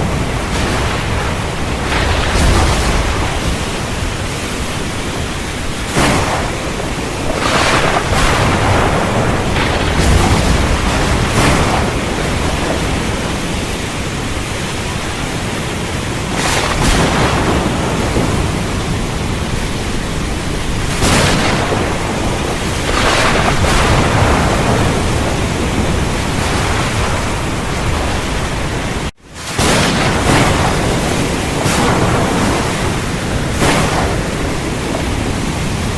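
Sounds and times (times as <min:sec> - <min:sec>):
heavy rain downpour: 0:00.0 - 0:35.9
thunder cracks: 0:00.0 - 0:35.9.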